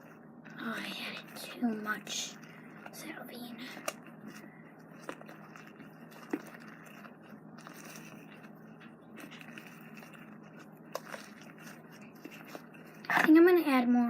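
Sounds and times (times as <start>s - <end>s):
slime scraping and squishing: 0.0s - 14.0s.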